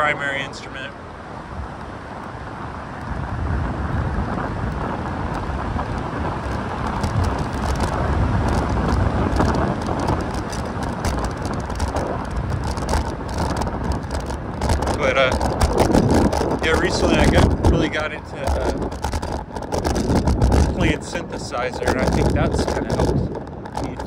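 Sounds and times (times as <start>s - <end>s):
wind and road noise: 0.0s - 24.0s
small clicks: 4.7s - 24.0s.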